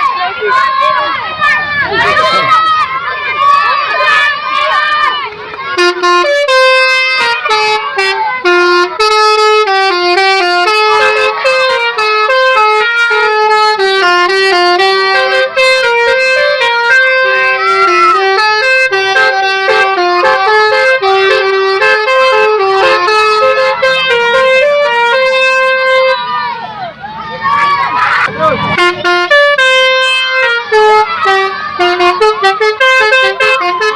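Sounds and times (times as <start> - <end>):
bus horn playing a tune: 1.9 - 2.8, 3.5 - 26.6, 28.6 - 33.9.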